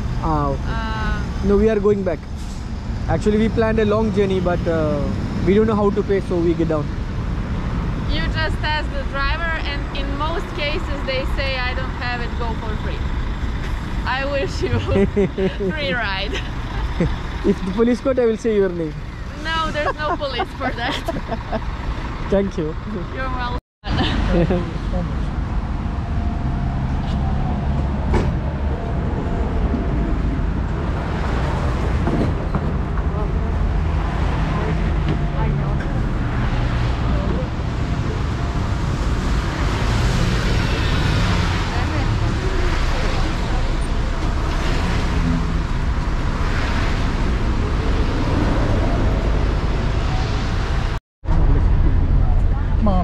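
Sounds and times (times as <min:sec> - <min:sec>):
street traffic: 0:00.0 - 0:53.0.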